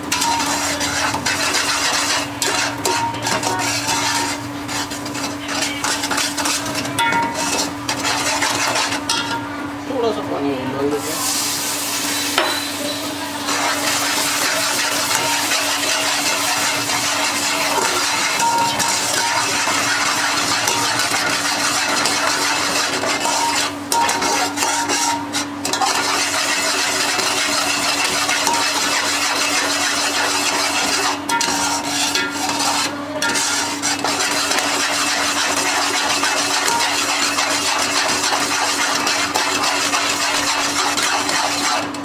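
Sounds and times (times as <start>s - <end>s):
metal spatula scraping pot: 0.0s - 9.5s, 12.1s - 42.0s
food sizzling in metal pot: 0.0s - 9.9s, 10.9s - 42.0s.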